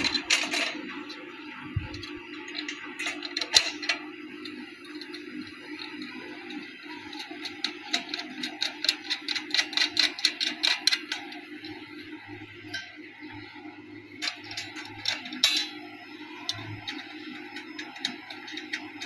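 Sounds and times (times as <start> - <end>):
rapid metallic clicking: 0.0 - 11.8, 14.1 - 15.8, 16.4 - 19.0.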